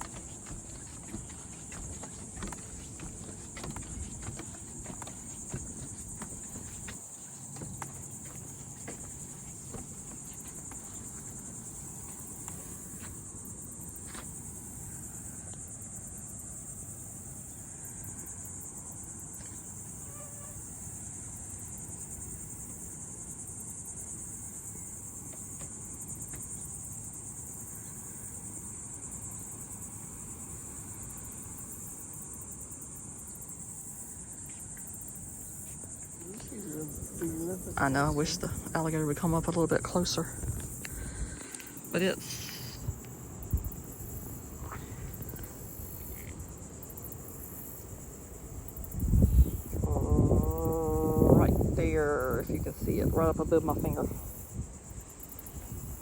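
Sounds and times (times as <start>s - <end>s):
insect chorus: 0.0s - 56.0s.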